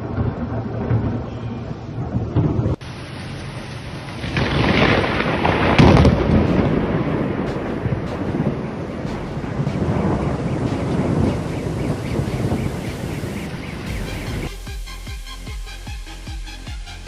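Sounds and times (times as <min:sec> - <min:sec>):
thunder rumbling: 0:00.0 - 0:14.6
heavy rain: 0:00.0 - 0:17.0.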